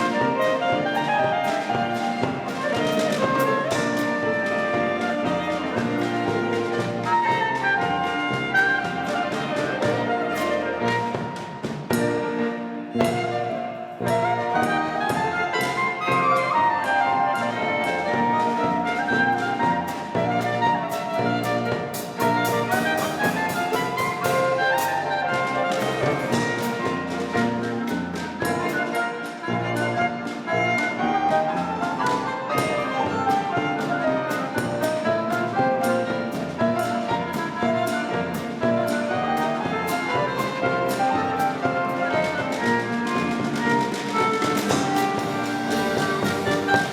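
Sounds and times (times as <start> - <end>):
drum striking: 0.0 - 16.5, 17.1 - 46.9
acoustic bass: 0.0 - 46.9
clarinet and violin melody: 0.0 - 46.9
lively klezmer band: 0.0 - 46.9
percussion: 0.0 - 46.9
piano: 0.0 - 46.9.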